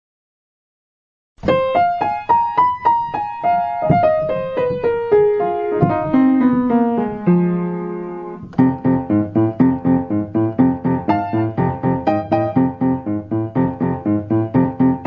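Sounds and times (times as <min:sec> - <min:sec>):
piano-like keyboard melody: 0:01.4 - 0:15.0.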